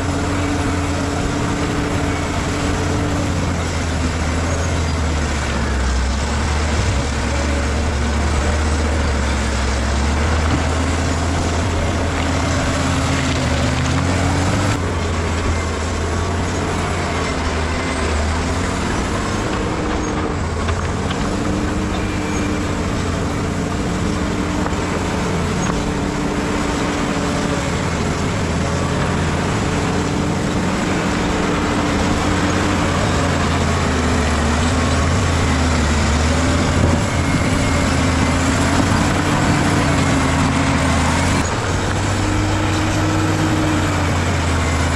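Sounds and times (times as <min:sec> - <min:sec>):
bulldozer diesel engine under load: 0:00.0 - 0:44.9.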